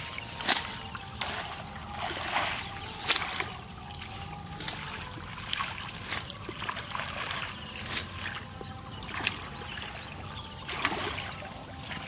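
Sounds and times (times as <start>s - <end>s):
hands splashing in muddy water: 0.0s - 12.0s.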